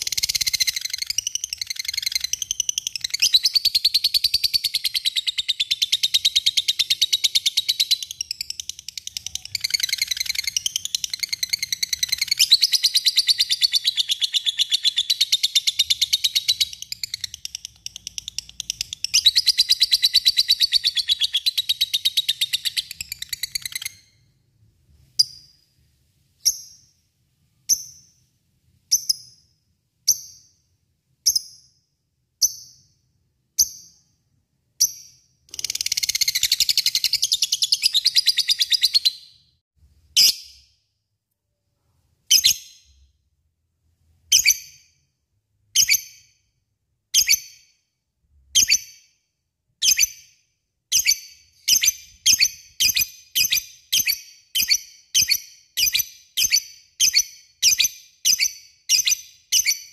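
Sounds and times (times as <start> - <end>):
sharp bird chirps: 0.0 - 24.4, 25.0 - 25.8, 26.4 - 39.6, 49.8 - 59.9.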